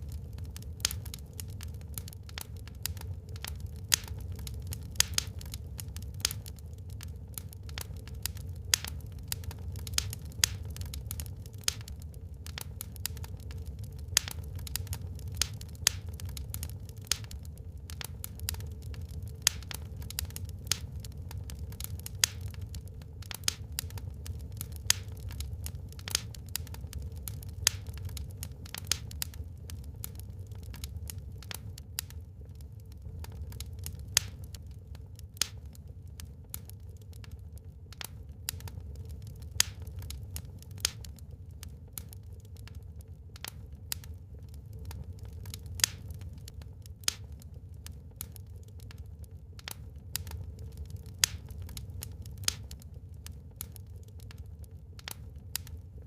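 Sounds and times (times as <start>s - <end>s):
fire crackling and popping: 0.0s - 56.0s
low rumble of fire: 0.0s - 56.0s.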